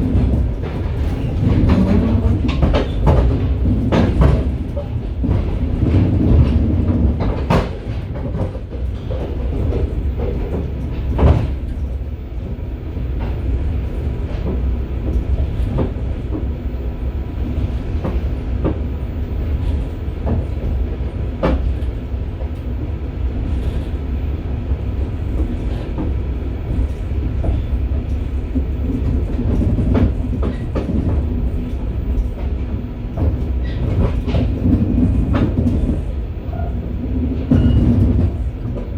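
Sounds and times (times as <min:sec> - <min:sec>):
railway car rumbling: 0:00.0 - 0:38.9.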